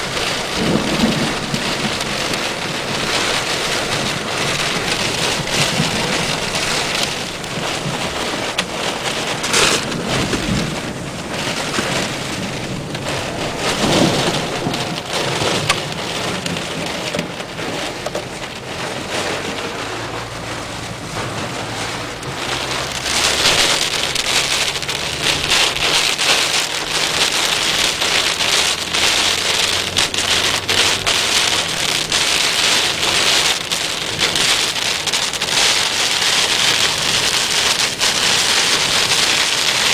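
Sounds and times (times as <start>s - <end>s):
heavy rain pouring: 0.0s - 39.9s
thunder rumbles: 0.0s - 39.9s.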